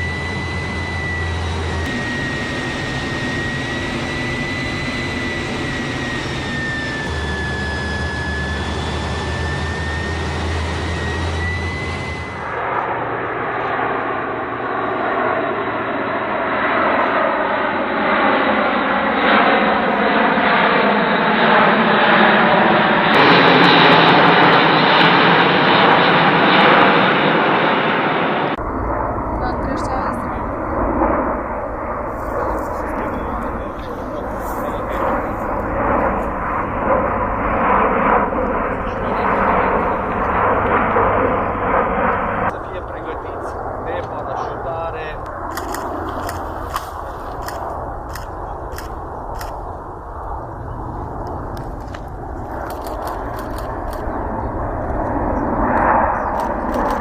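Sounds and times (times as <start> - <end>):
engine noise sliding in pitch: 0.0 - 16.4, 20.8 - 57.0
turboprop engine whine: 0.0 - 57.0.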